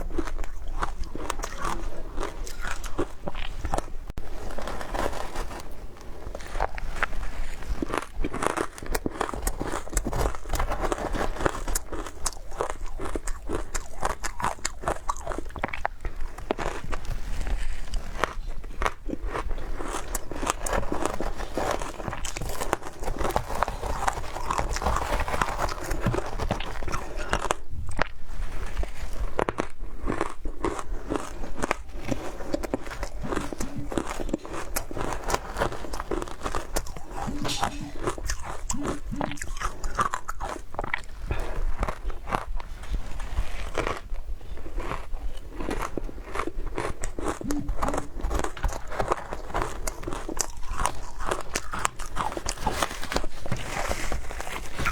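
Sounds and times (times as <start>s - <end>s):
chewing crunchy ice: 0.0s - 54.9s.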